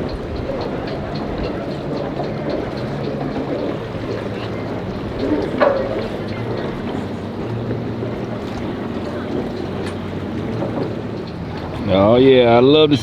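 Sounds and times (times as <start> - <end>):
boat engines humming: 0.0 - 13.0
water wash: 0.0 - 13.0.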